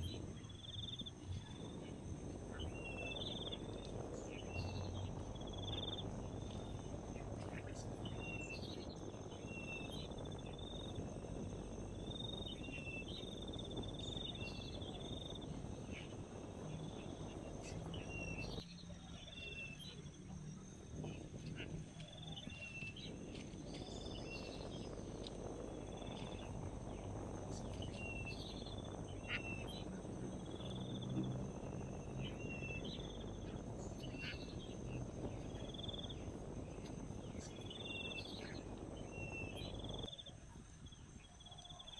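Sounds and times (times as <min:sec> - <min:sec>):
crickets buzzing: 0:00.0 - 0:41.9
insect high chirps: 0:00.0 - 0:41.9
low background rumble: 0:00.0 - 0:41.9.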